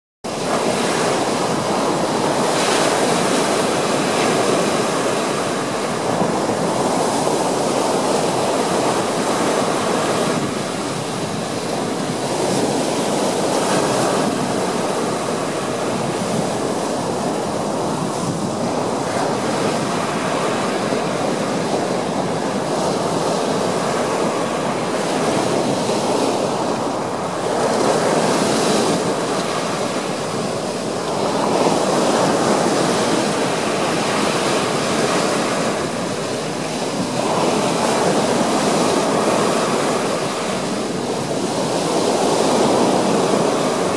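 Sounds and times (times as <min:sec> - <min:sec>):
surf breaking on beach: 0:00.3 - 0:43.9.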